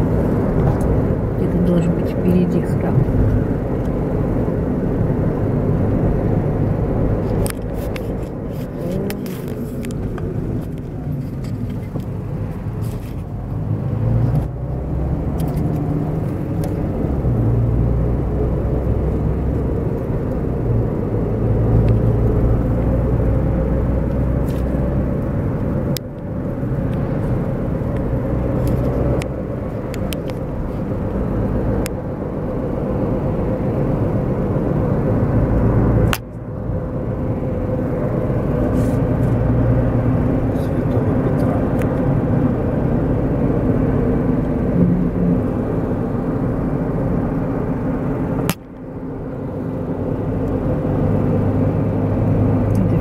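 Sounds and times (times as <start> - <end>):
car engine and road noise: 0.0 - 53.0.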